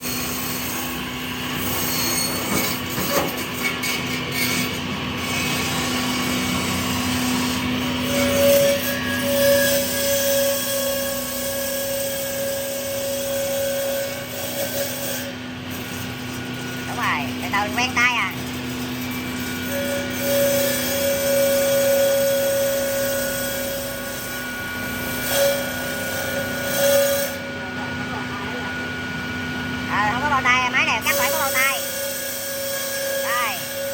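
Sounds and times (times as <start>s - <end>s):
saw blades cutting ice: 0.0s - 33.9s.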